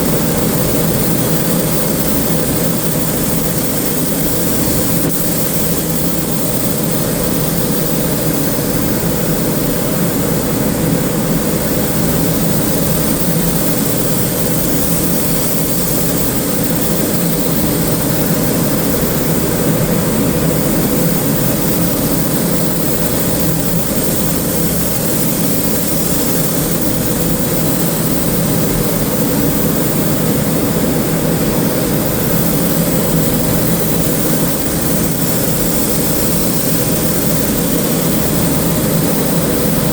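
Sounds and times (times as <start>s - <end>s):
hum: 0.0s - 39.9s
machine drone: 0.0s - 39.9s.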